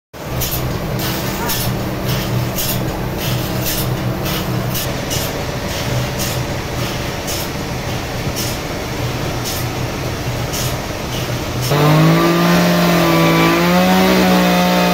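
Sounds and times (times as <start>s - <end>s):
machinery engine humming: 0.2s - 14.9s.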